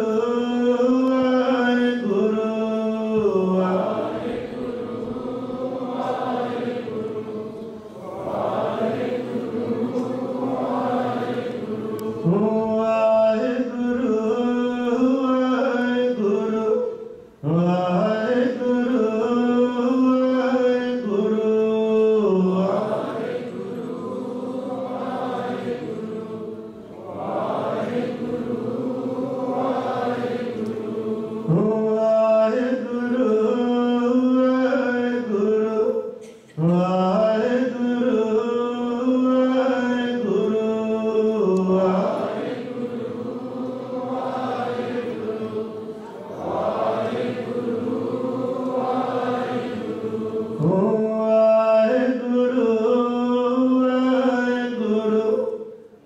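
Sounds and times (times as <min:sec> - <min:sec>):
congregation chanting: 0:00.0 - 0:56.0.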